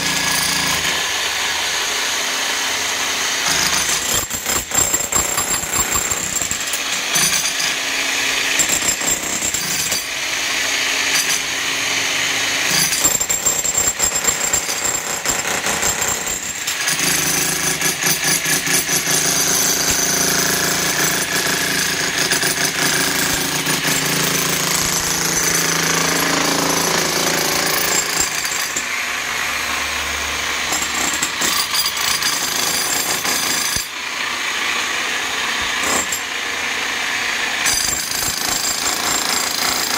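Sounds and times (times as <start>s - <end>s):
demolition hammer on concrete: 0.0s - 39.9s.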